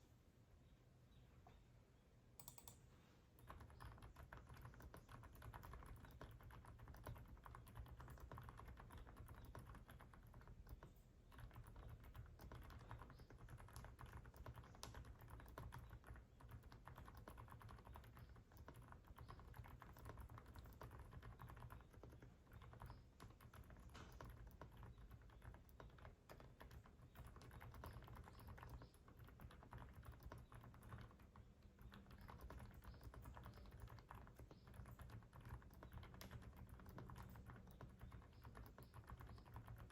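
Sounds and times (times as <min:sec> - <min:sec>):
soft keyboard keystrokes: 0:02.4 - 0:02.8, 0:03.4 - 0:39.9.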